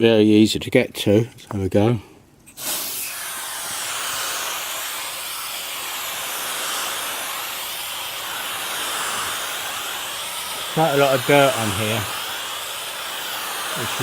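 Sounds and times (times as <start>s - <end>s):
aerosol can spraying hiss: 2.5s - 14.0s.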